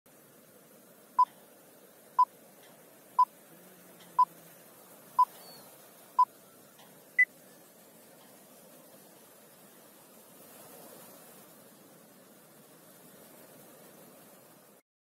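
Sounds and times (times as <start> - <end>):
faint hiss: 0.1 - 14.8.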